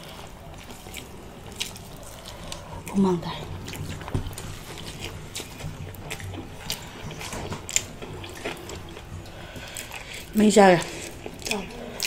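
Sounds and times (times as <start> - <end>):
wet chewing and lip smacking: 0.1 - 12.0.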